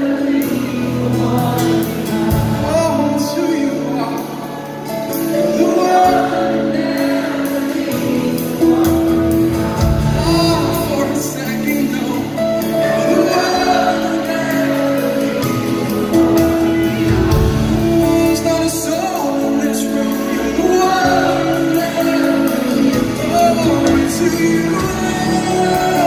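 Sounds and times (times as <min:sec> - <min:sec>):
acoustic guitar: 0:00.0 - 0:26.0
singing: 0:00.0 - 0:26.0
worship band playing: 0:00.0 - 0:26.0.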